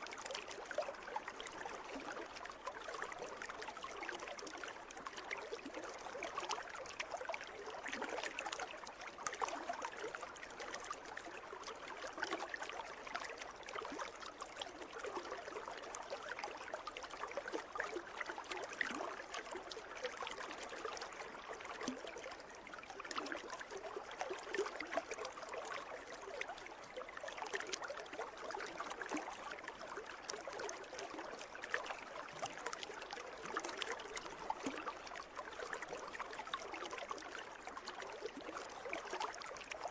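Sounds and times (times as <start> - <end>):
water trickling and lapping: 0.0 - 39.9.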